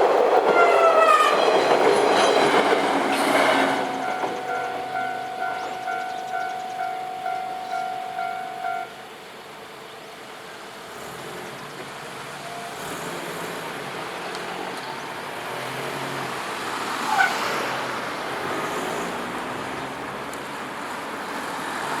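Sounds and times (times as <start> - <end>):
train rolling: 0.0 - 22.0.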